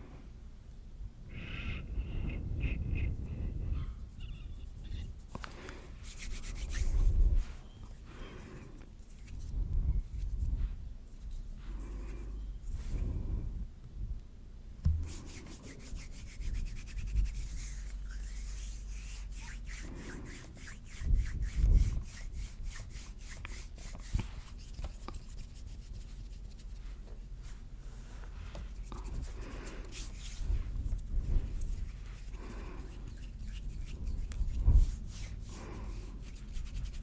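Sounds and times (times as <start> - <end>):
hands rubbing: 4.0 - 10.5, 11.1 - 13.0, 14.9 - 37.0.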